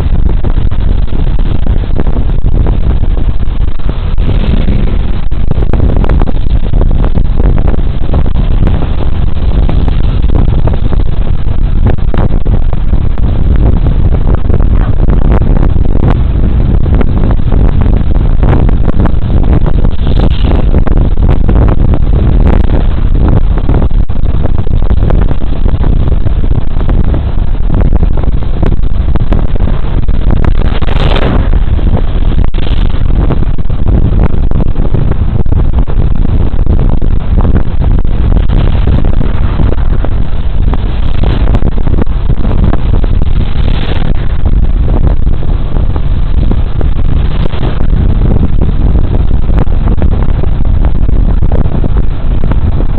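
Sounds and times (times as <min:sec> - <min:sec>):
road noise: 0:00.0 - 0:52.9
wind rumbling on microphone: 0:00.0 - 0:52.9.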